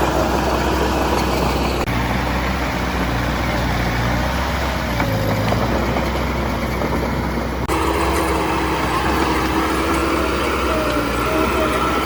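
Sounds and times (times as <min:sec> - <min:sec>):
diesel machinery running: 0:00.0 - 0:12.0.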